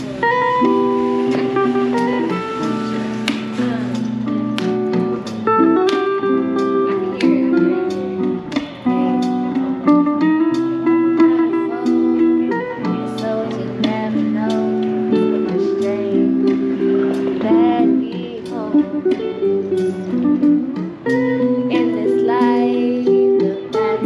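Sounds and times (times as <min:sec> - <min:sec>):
guitar playing plucked notes: 0:00.0 - 0:24.0.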